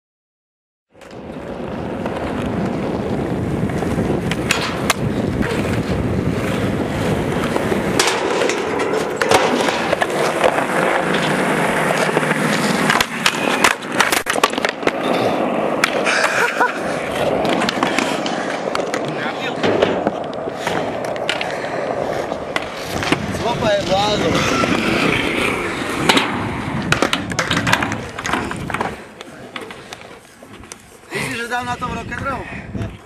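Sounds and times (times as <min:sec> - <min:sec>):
skateboard wheels rolling on concrete: 0:00.9 - 0:33.0.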